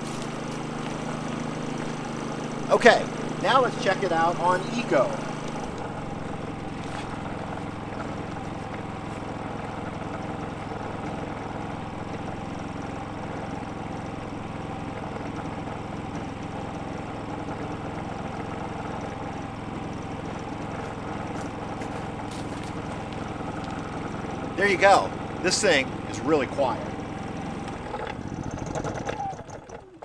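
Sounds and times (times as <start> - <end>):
generator engine humming: 0.0 - 30.0.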